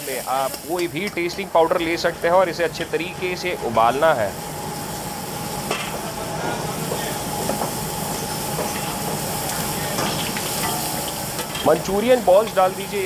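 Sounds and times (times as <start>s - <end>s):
sauce boiling in a wok: 0.0s - 13.0s.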